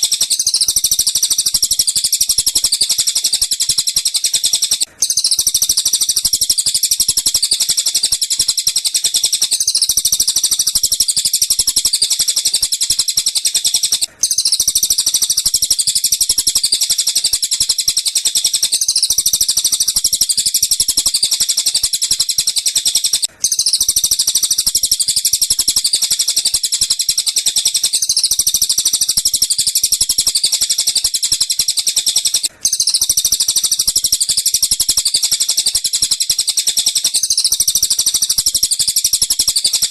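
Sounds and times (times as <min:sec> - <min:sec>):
rapid high-pitched bird chirps: 0:00.0 - 0:39.9.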